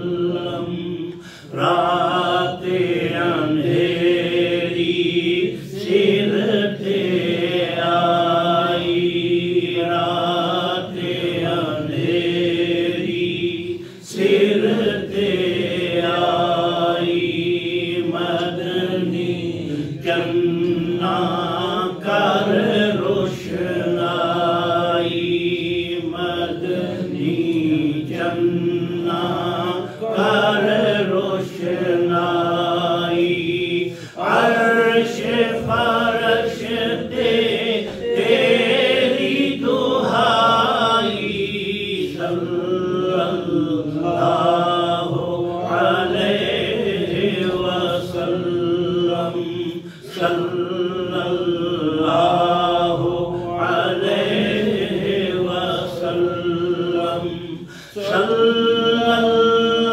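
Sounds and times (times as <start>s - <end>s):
person chanting devotional song: 0.0s - 59.9s.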